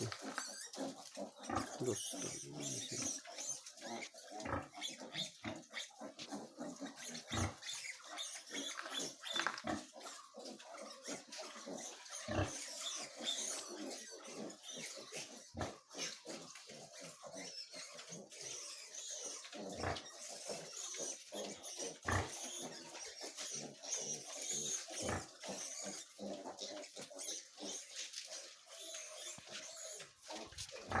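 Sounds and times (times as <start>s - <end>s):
pigs grunting: 0.0s - 31.0s.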